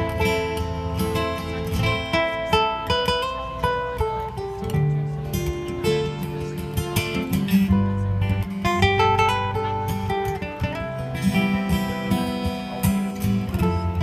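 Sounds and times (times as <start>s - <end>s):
low bass line: 0.0s - 12.4s
ukuleles playing a melody: 0.0s - 14.0s.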